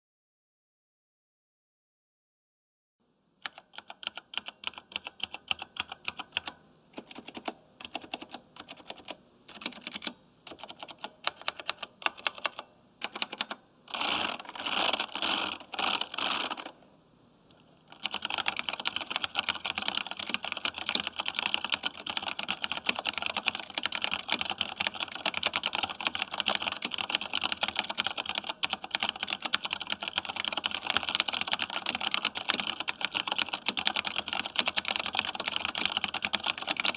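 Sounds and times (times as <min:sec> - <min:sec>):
mechanical keyboard typing: 0:03.5 - 0:16.8, 0:17.9 - 0:36.9.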